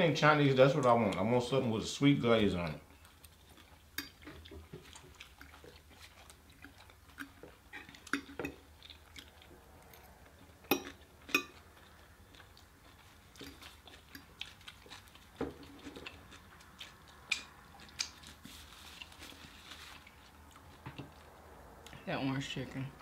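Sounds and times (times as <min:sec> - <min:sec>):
person chewing food: 0:02.6 - 0:22.0.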